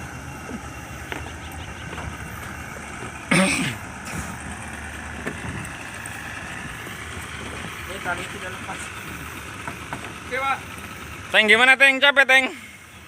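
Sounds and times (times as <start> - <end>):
speedboat engine running: 0.0 - 13.0.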